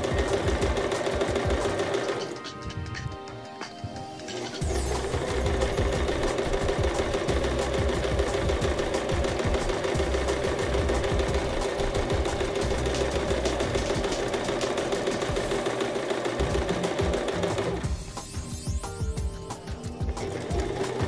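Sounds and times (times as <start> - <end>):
sewing machine stitching: 0.0 - 2.5, 4.3 - 18.0, 20.0 - 21.0.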